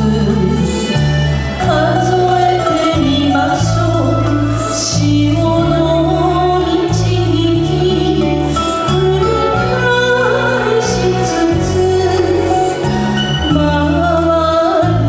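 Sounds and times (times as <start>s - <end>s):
amplified backing music: 0.0s - 15.0s
woman singing a slow ballad: 0.0s - 15.0s.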